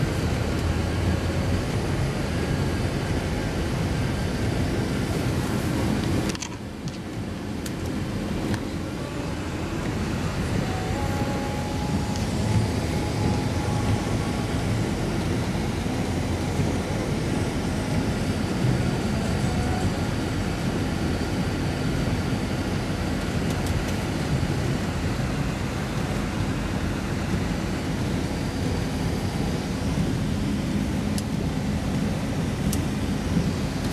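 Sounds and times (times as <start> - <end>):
vehicle rumbling: 0.0 - 33.9.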